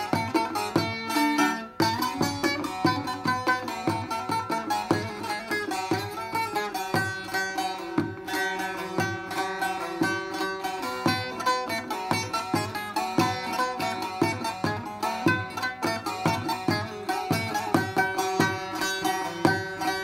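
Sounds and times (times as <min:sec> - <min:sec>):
plucked long-necked lute: 0:00.0 - 0:20.0.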